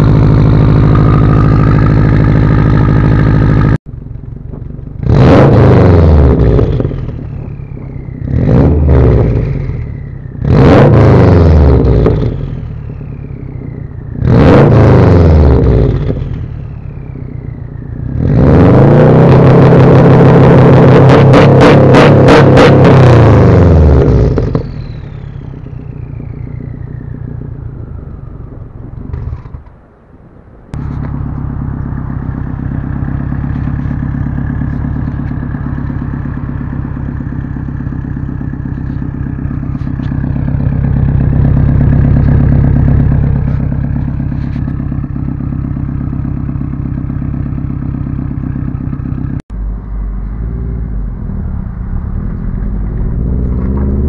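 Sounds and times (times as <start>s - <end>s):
rev limiter bouncing: 0.0s - 29.6s, 30.7s - 54.0s
car exhaust idling: 0.0s - 54.0s
high turbo whine: 0.0s - 54.0s.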